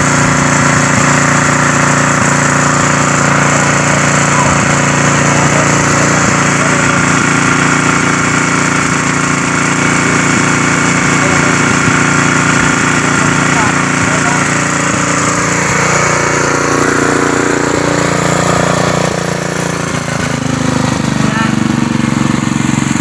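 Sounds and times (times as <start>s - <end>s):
welding plant engine droning: 0.0s - 23.0s.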